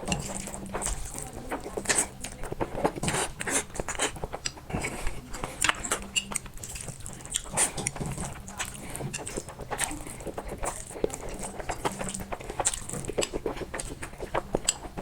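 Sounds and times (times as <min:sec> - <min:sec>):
mouth smacks and clicks: 0:00.0 - 0:15.0
person chewing noodles: 0:00.0 - 0:15.0.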